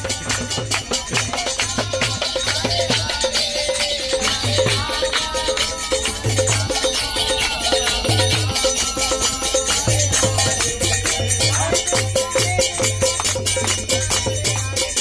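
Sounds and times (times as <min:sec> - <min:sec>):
voices chanting in chorus: 0:00.0 - 0:14.9
drum beats: 0:00.0 - 0:15.0
hand cymbals ringing: 0:00.0 - 0:15.0
hand clapping: 0:00.1 - 0:15.0.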